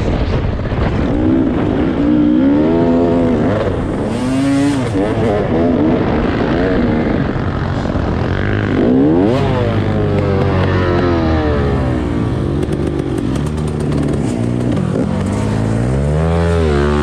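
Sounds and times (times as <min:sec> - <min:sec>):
dirt bike engine revving: 0:00.9 - 0:17.0.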